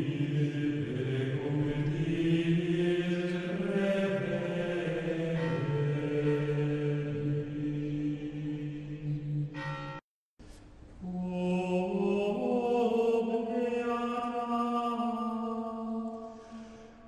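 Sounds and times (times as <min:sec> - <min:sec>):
slow chant-like background music: 0:00.0 - 0:09.8, 0:11.0 - 0:17.0.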